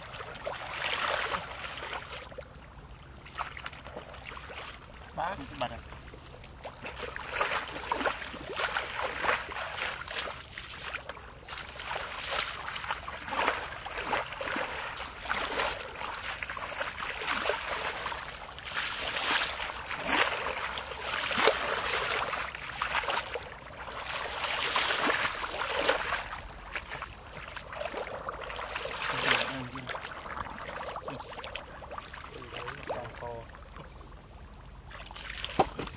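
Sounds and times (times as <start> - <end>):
feet sloshing through muddy water: 0.0 - 35.9.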